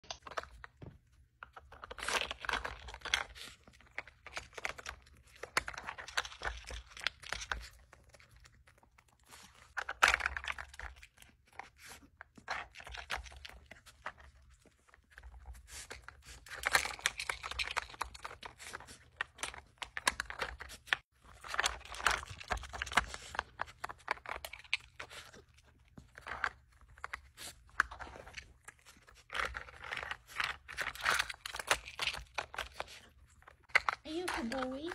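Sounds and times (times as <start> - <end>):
plastic puzzle clicking and rattling: 1.4 - 8.8, 9.4 - 11.7, 15.1 - 34.9
dog crunching food: 1.6 - 34.8.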